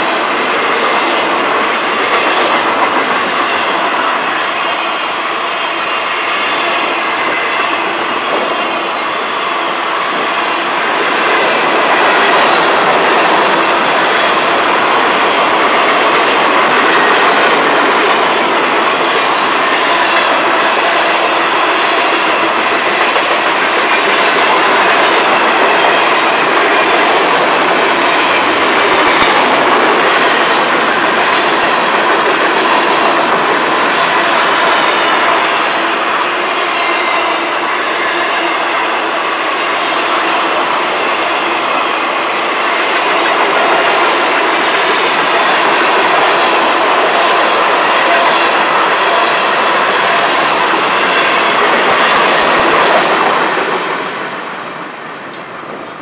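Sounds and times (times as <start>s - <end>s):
freight cars rumbling on rails: 0.0s - 56.0s
wheels clickety-clack on rail joints: 0.0s - 56.0s.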